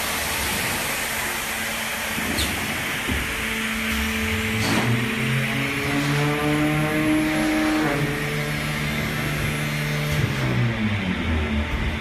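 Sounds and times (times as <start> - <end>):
molding machine motor whine: 0.0 - 12.0.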